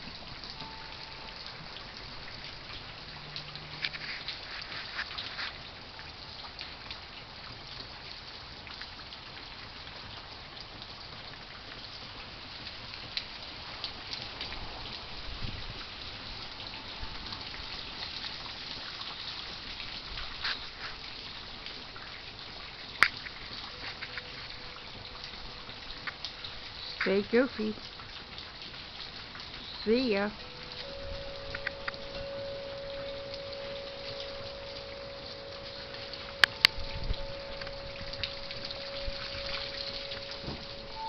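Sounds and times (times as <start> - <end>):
raindrops ticking nearby: 0.0 - 41.0
steady rain: 0.0 - 41.0.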